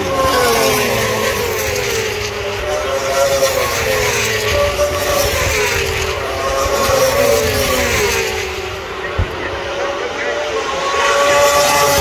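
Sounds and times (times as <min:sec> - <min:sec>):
racing motorbike engines passing: 0:00.0 - 0:12.0.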